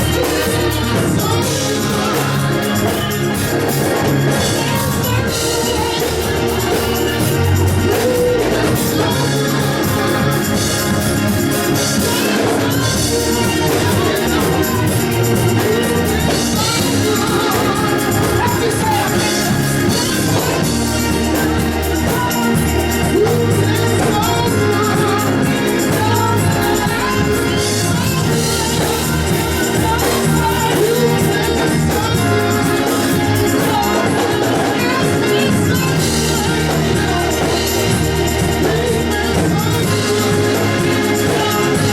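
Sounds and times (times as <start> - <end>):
band playing: 0.0 - 41.9
gospel singing: 0.0 - 41.9.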